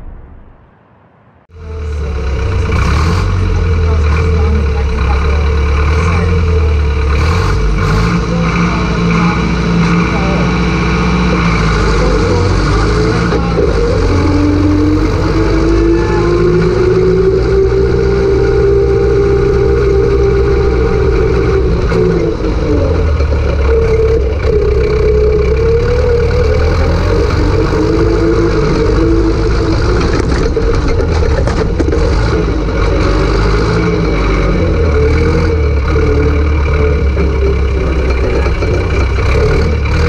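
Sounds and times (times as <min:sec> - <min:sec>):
tractor diesel engine under load: 0:01.4 - 0:40.0.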